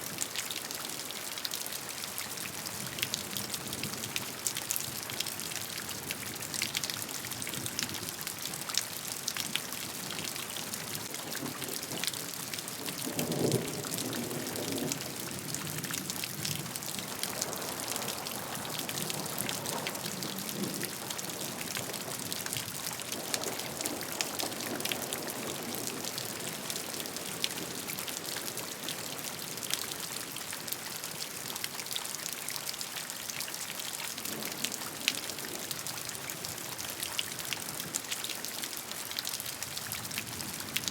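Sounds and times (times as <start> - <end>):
raindrops ticking on a surface: 0.1 - 40.9.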